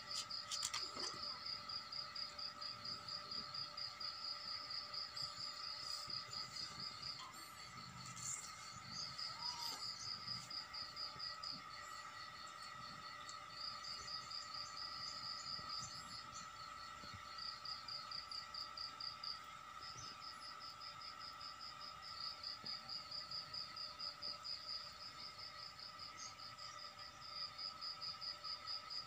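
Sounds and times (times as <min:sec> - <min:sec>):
insects chirping: 0:00.0 - 0:29.0
steady high hum: 0:00.0 - 0:29.0.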